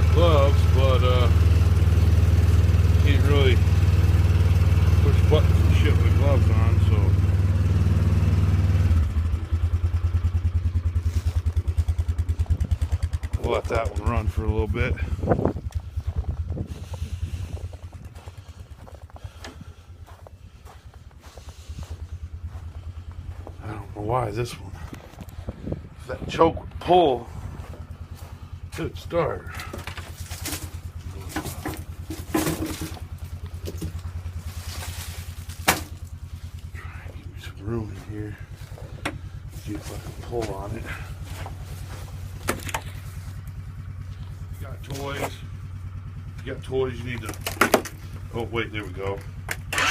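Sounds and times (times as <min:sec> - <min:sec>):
quad engine idling: 0:00.0 - 0:49.9.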